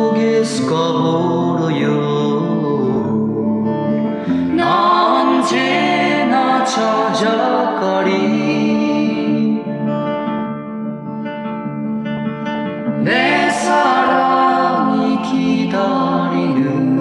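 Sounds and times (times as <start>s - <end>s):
plucked guitar: 0.0s - 17.0s
slow song with gliding melody: 0.0s - 17.0s.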